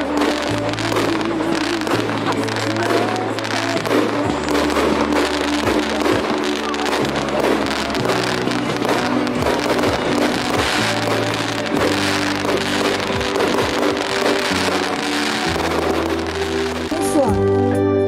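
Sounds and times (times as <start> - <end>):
fireworks crackling and popping: 0.0 - 17.8
music with sustained notes: 0.0 - 18.0.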